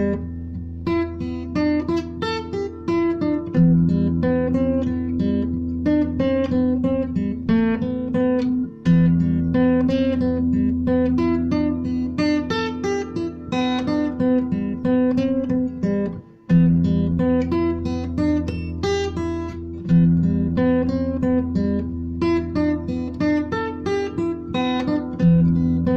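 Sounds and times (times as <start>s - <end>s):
acoustic guitar melody: 0.0s - 25.9s.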